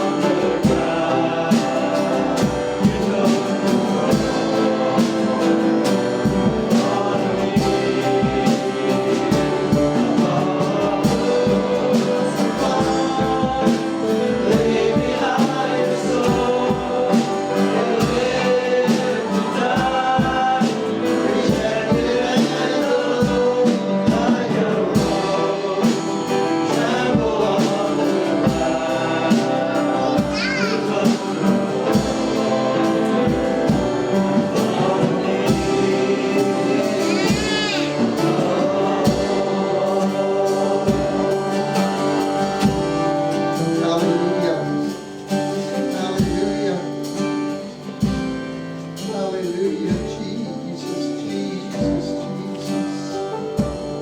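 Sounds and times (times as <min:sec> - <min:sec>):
steady drum beat: 0:00.0 - 0:50.8, 0:53.4 - 0:54.0
gospel praise song with singers: 0:00.0 - 0:54.0.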